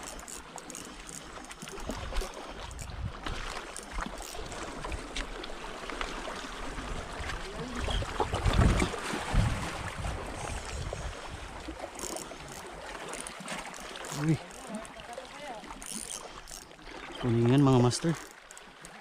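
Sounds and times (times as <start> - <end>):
sea water sloshing and lapping: 0.0 - 19.0.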